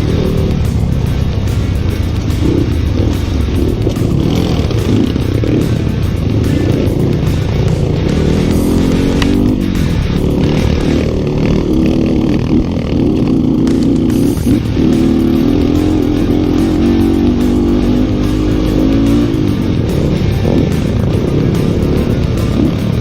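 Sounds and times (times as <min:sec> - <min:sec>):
background music: 0:00.0 - 0:23.0
motorcycle engine revving: 0:00.0 - 0:23.0.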